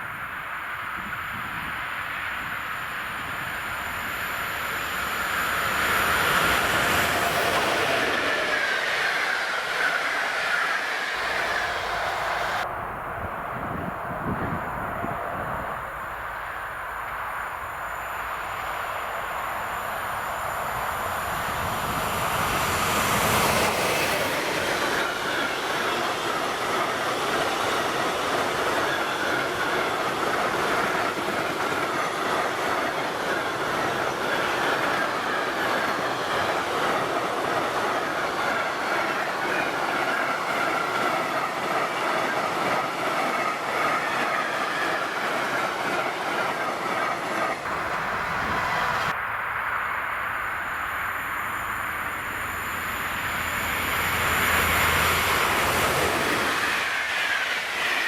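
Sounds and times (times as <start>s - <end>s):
freight train passing: 0.0s - 58.0s
high ringing from train wheels: 1.0s - 58.0s.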